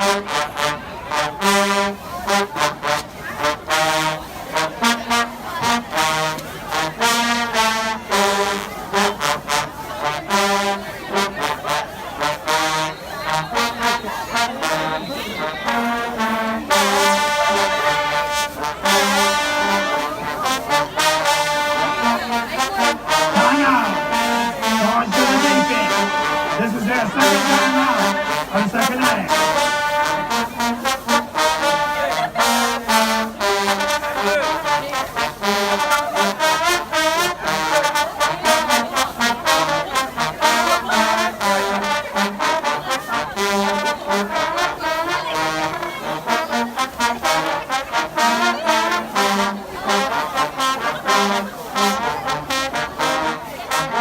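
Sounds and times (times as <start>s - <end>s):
marching band brass: 0.0s - 54.0s.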